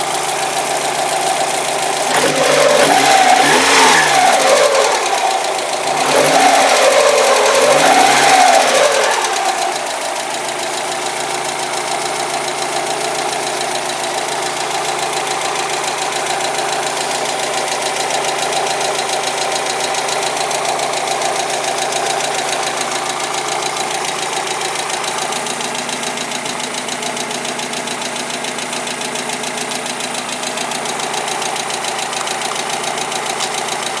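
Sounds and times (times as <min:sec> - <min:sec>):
car engine revving and idling: 0:00.0 - 0:34.0
engine ticking: 0:00.0 - 0:34.0.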